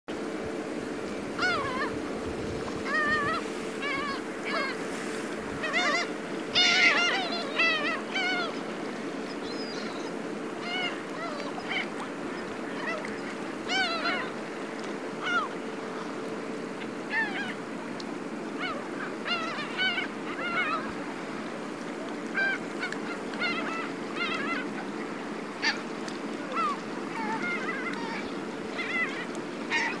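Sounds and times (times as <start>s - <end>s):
boat engine hum: 0.1s - 30.0s
gulls calling: 0.1s - 30.0s.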